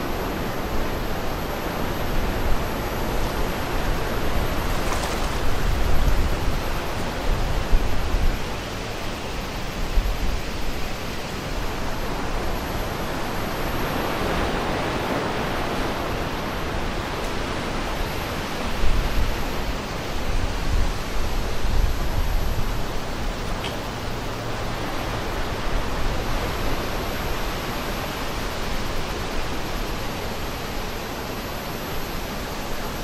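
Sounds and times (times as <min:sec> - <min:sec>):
wind blowing over microphone: 0:00.0 - 0:31.0.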